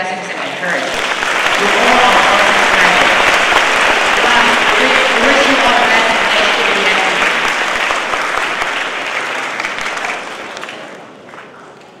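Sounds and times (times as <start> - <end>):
audience applauding: 0.4 - 11.6.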